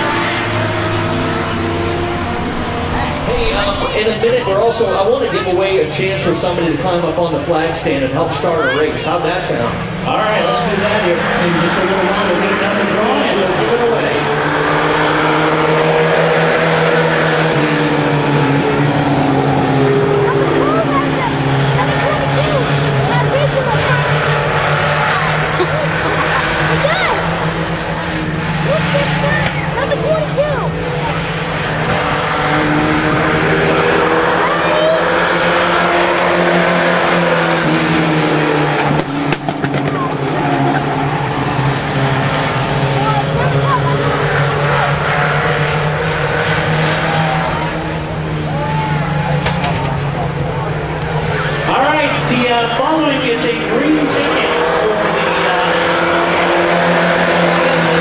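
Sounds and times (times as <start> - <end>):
racing truck engines: 0.0 - 58.0.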